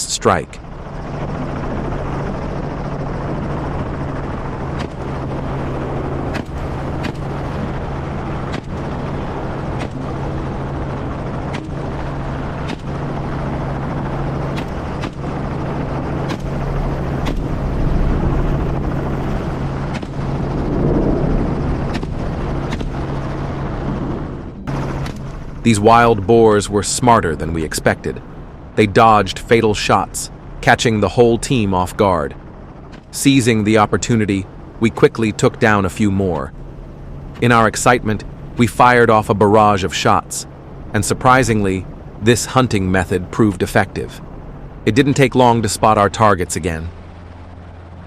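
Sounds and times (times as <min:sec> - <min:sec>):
helicopter engine and rotors: 0:00.0 - 0:48.0.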